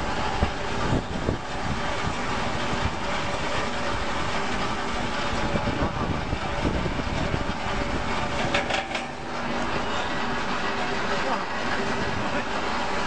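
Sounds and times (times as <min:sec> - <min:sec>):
wire stripping machine running: 0:00.0 - 0:13.0.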